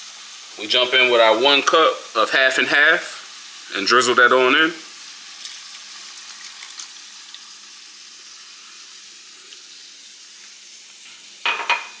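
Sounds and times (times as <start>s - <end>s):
cream sauce sizzling in a pan: 0.0s - 12.0s.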